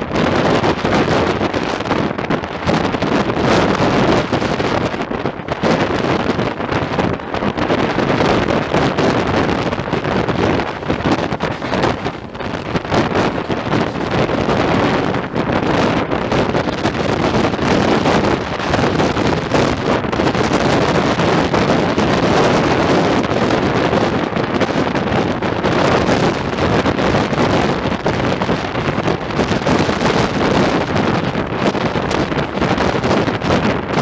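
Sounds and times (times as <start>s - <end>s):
train running noise: 0.0s - 34.0s
wind rushing over microphone: 0.0s - 34.0s.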